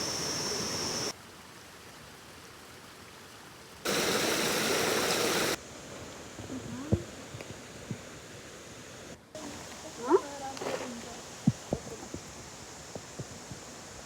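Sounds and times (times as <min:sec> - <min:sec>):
rushing outdoor noise: 0:00.0 - 0:01.2, 0:03.9 - 0:14.0.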